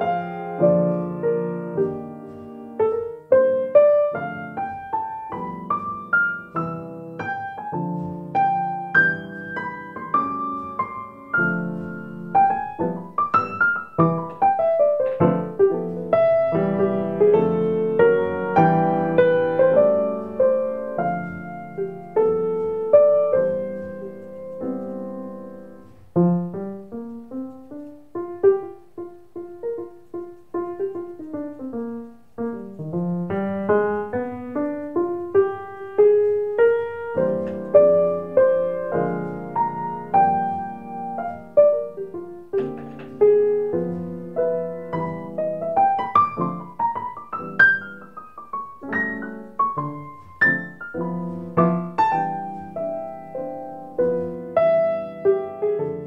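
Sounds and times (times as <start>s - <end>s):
piano melody: 0.0s - 56.0s.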